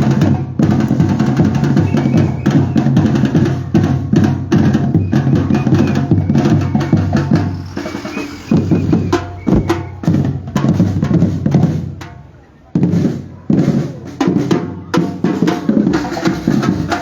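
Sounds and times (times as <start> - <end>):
percussion group drumming: 0.0 - 17.0.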